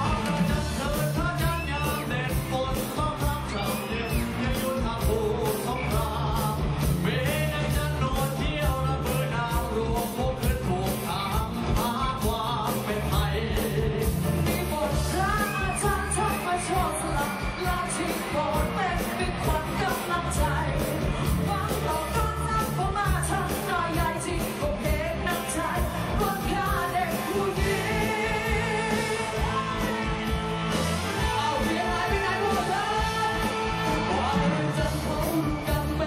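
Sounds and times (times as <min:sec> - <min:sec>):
men singing: 0:00.0 - 0:20.8, 0:23.5 - 0:36.0
bass: 0:00.0 - 0:36.0
drum beat: 0:00.0 - 0:36.0.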